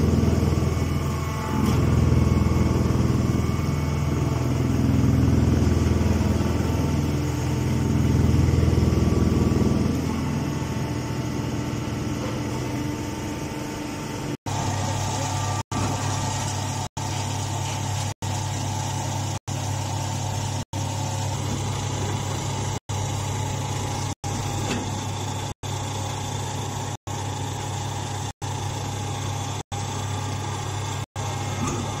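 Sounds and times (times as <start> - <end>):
hydraulic motor and pump humming: 0.0 - 32.0.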